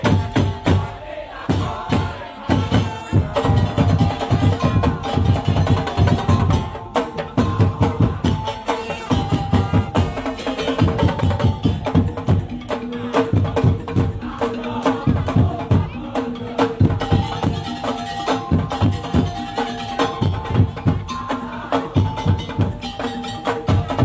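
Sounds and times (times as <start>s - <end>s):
drums beating: 0.0s - 24.0s.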